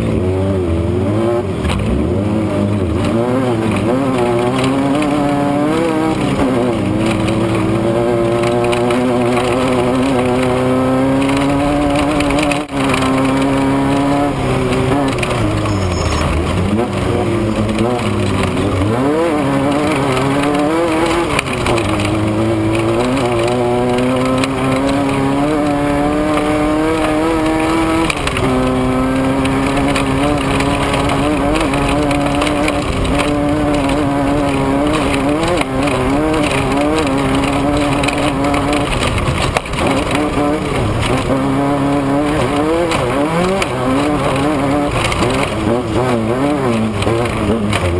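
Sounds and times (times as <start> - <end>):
engine revving high: 0.0 - 47.9
wind and road noise: 0.0 - 47.9.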